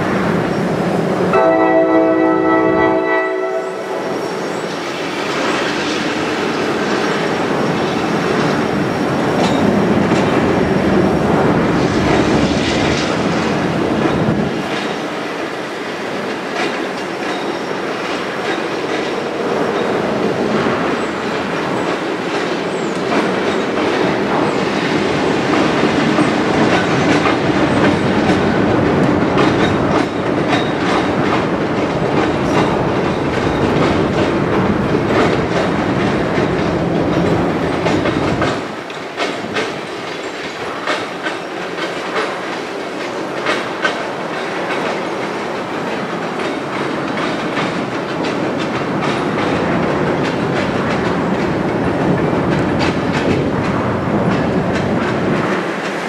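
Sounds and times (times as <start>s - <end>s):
diesel locomotives rumbling: 0.0s - 56.0s
train wheels clacking over rails: 0.0s - 56.0s.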